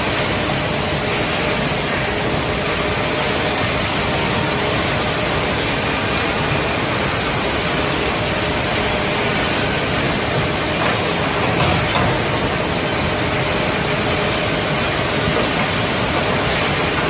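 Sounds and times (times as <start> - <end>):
woodworking machine running: 0.0 - 17.0.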